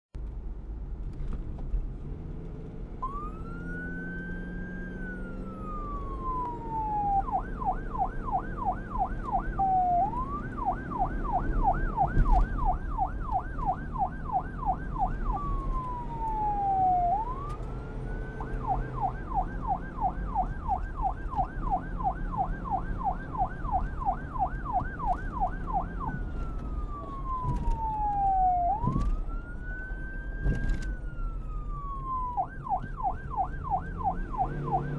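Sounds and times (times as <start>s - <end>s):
police siren wail and yelp: 3.0s - 34.9s.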